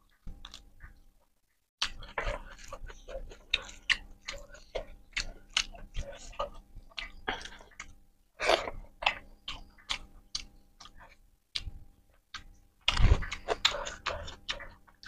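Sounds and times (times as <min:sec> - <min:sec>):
wet chewing and lip smacks: 0:00.0 - 0:01.1, 0:01.8 - 0:15.0.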